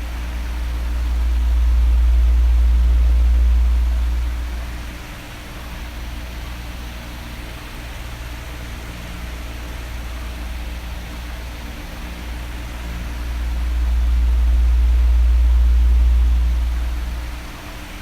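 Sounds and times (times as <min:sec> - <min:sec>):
electric fan whooshing: 0:00.0 - 0:06.6, 0:09.8 - 0:18.0.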